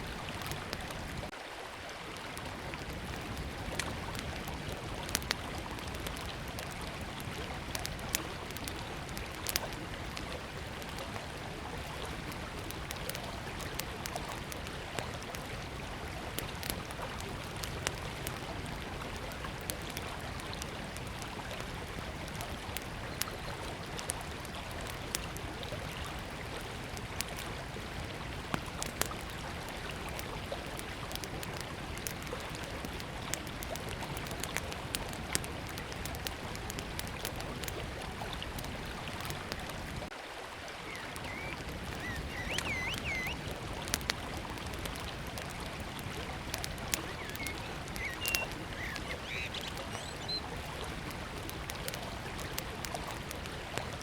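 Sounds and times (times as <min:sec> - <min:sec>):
campfire crackling and popping: 0:00.0 - 0:01.4, 0:02.1 - 0:54.0
river flowing: 0:00.0 - 0:54.0.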